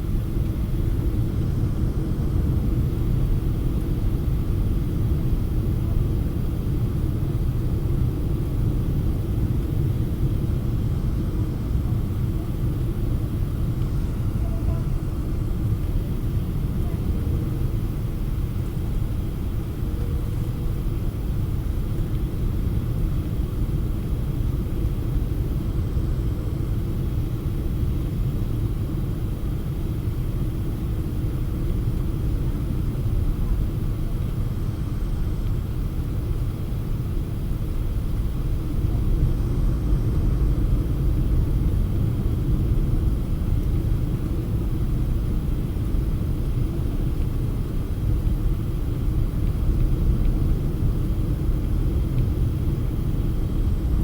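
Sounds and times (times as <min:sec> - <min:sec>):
airliner cabin rumble: 0:09.2 - 0:54.0.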